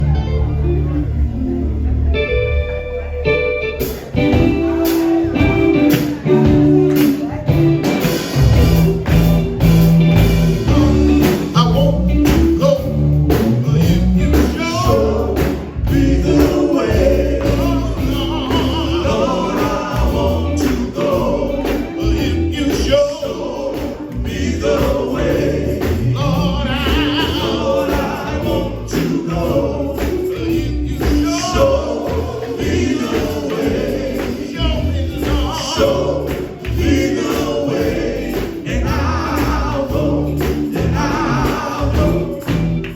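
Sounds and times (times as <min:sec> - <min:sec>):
band playing: 0:00.0 - 0:42.9
strong bass line: 0:00.0 - 0:42.9
male vocal group singing: 0:07.9 - 0:42.9.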